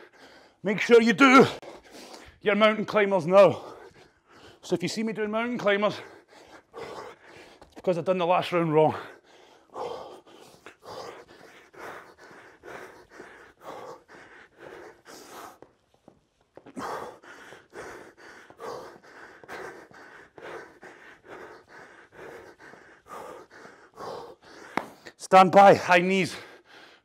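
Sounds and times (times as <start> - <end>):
man breathing hard and fast: 0.0 - 27.0.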